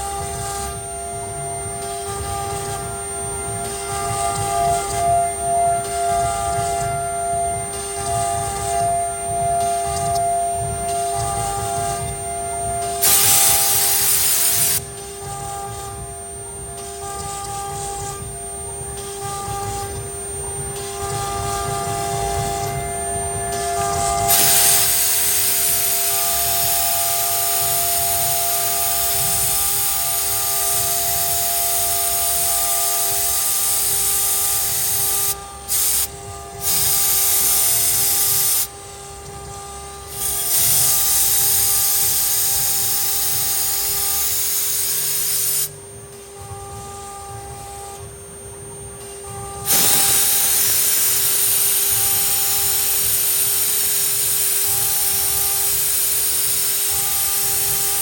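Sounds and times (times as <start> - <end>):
router cutting hiss: 0.0 - 48.1, 48.7 - 58.0
router spindle whine: 0.0 - 58.0.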